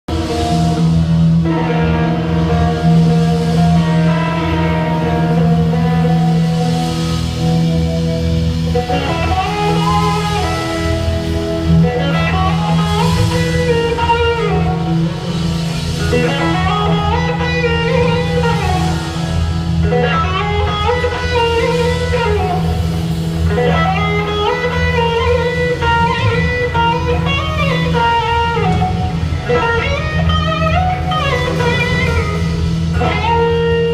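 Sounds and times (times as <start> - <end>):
bass guitar: 0.0 - 33.9
drums: 0.0 - 33.9
slide electric guitar melody: 0.0 - 33.9.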